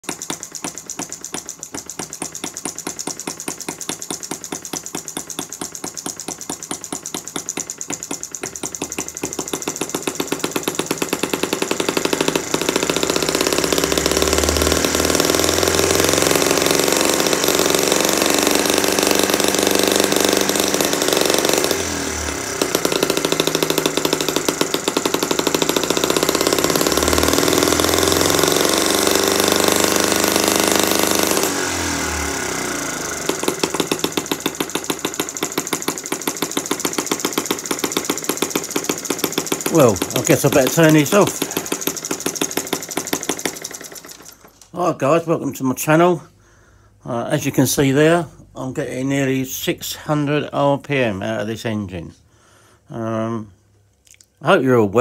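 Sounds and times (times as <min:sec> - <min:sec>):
model engine knocking: 0:00.0 - 0:44.6.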